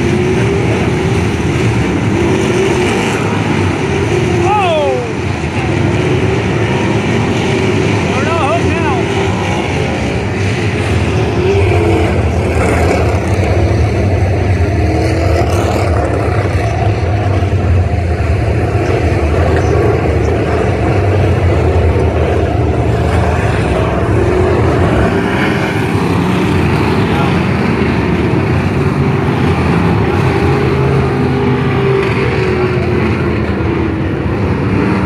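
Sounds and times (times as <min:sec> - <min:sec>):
race car engines roaring: 0:00.0 - 0:35.0.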